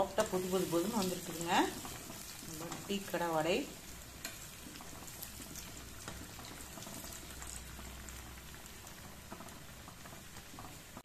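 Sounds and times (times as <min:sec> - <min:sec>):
hot oil sizzling and bubbling: 0:00.0 - 0:11.0.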